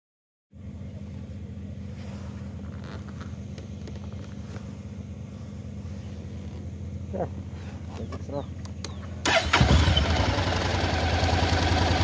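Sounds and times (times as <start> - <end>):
motorcycle engine idling: 0.6 - 12.0.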